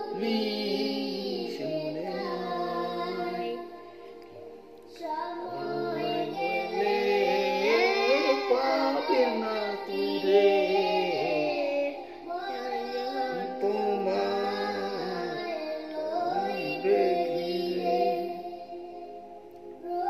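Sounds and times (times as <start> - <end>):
man singing: 0.0 - 3.6, 5.0 - 18.5
boy singing: 0.0 - 3.8, 4.9 - 18.9.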